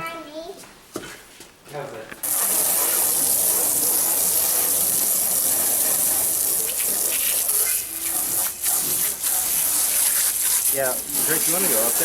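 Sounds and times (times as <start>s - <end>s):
water spraying from a hose: 2.2s - 12.0s.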